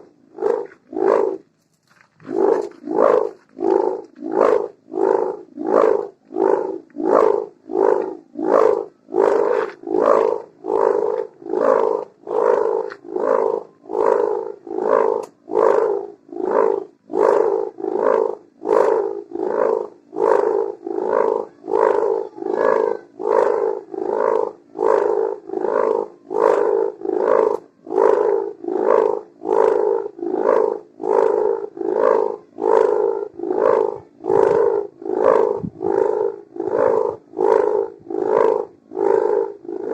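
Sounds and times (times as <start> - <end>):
kite hummer buzzing drone: 0.0 - 39.9.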